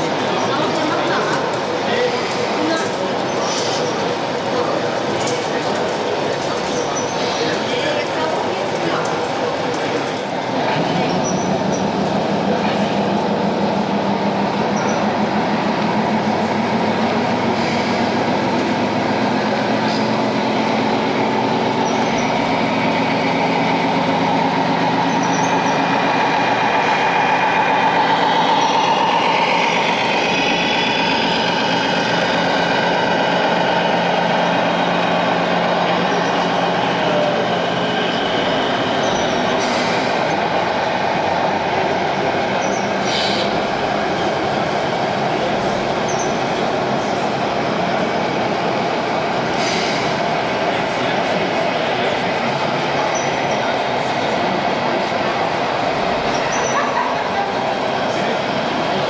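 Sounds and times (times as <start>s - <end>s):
engine-like hum: 0.0s - 59.0s.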